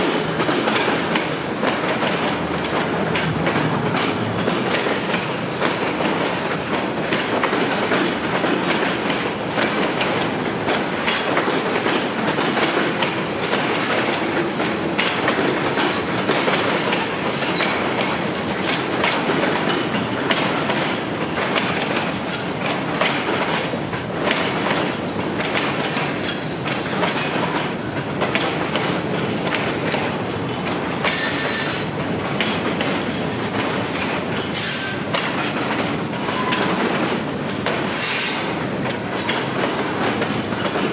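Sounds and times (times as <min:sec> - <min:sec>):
train wheels clicking over rails: 0:00.0 - 0:40.9.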